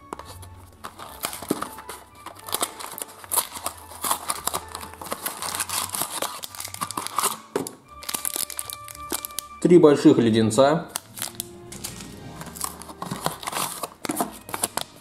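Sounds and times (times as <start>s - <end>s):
packaging tearing and crinkling: 0.2s - 9.6s, 10.9s - 15.0s.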